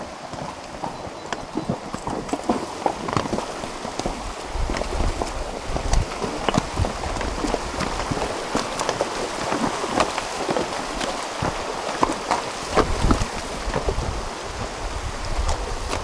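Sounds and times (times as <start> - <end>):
stream rushing: 0.0 - 16.0
water splashing around horses' legs: 0.0 - 16.0
hooves knocking on stones: 0.2 - 14.1.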